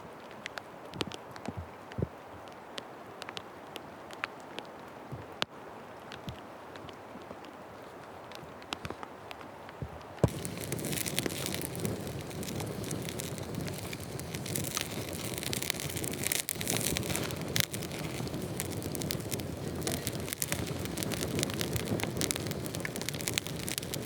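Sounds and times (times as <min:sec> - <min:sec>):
wood fire crackling: 0:00.2 - 0:24.0.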